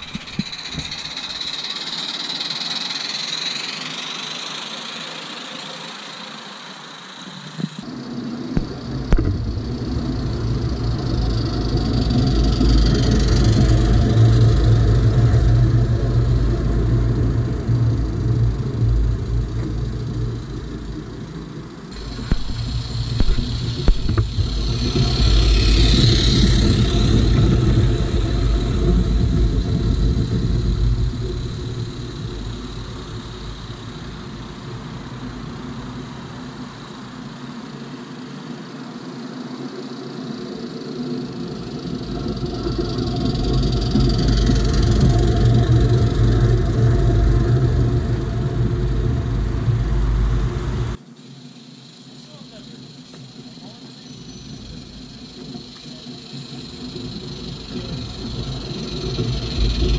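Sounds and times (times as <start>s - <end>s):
model locomotive rumbling: 0.0s - 37.4s, 40.3s - 51.0s, 52.2s - 59.9s.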